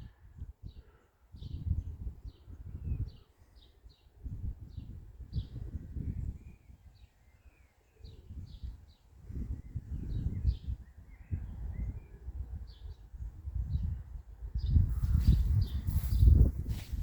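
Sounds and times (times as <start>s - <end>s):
wind buffeting microphone: 0.0s - 3.3s, 4.2s - 7.1s, 8.0s - 17.0s
small birds chirping: 0.0s - 17.0s.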